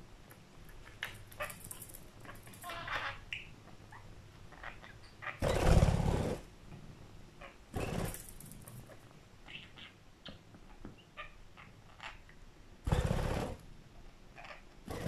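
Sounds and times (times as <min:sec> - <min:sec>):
bird chirping softly: 0:00.6 - 0:06.0, 0:07.4 - 0:13.4, 0:14.3 - 0:15.0.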